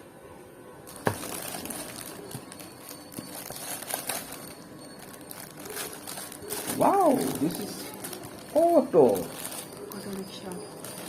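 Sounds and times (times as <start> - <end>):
packaging crinkling: 0.9 - 11.0.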